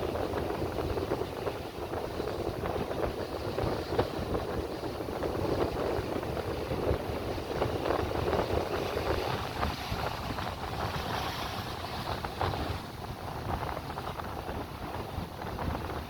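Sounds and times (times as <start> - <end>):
sea surf washing on shore: 0.0 - 16.0
wind buffeting microphone: 0.0 - 16.0.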